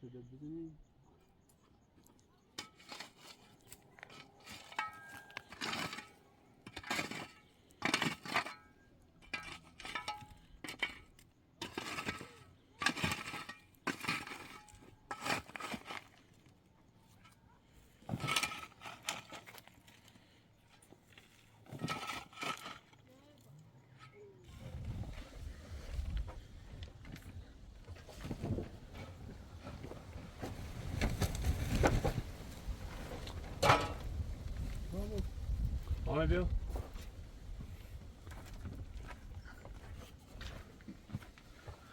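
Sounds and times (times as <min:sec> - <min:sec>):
clinks and scrapes of hard objects: 0:01.4 - 0:35.8.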